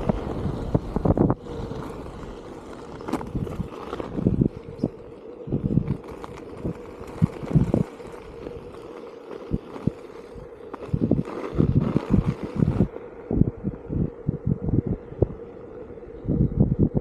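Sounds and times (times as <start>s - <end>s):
electric motor hum: 0.0s - 17.0s
wind buffeting microphone: 0.0s - 17.0s.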